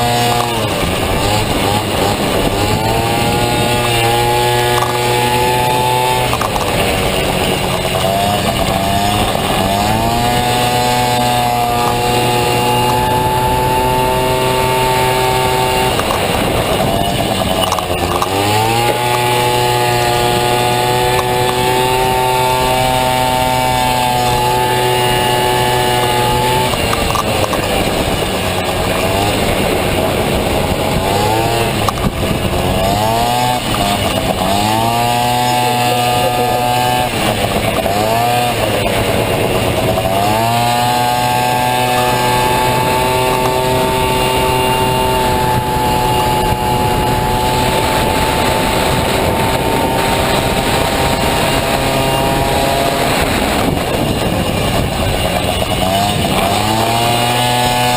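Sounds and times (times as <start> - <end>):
scooter engine at full throttle: 0.0 - 57.9.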